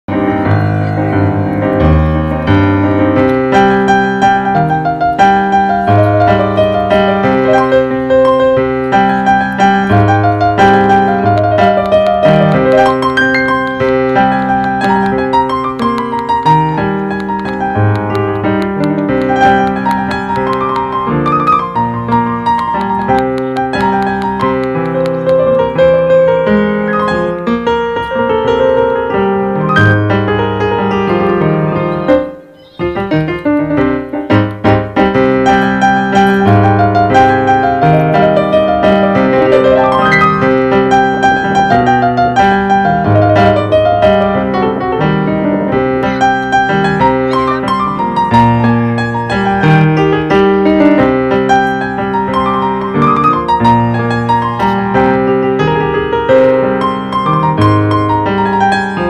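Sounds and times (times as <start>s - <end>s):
slow piano music: 0.1s - 59.0s.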